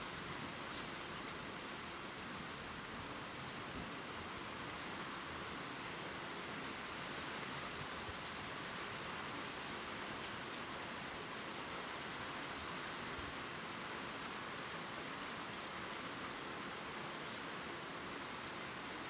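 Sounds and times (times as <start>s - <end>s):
rain pattering on leaves: 0.1s - 19.0s.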